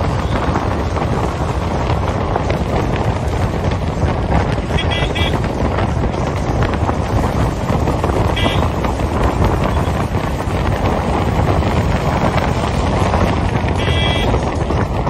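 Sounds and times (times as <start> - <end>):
car road rumble: 0.0 - 15.0
wind buffeting microphone: 0.0 - 15.0.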